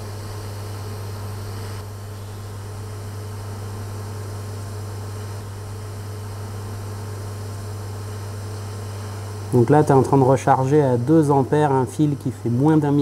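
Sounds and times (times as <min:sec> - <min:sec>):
welder humming and hissing: 0:00.0 - 0:13.0.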